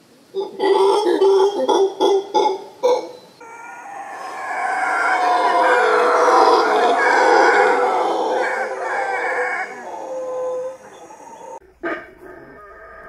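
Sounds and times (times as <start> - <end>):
howler monkeys howling: 0.4 - 13.0.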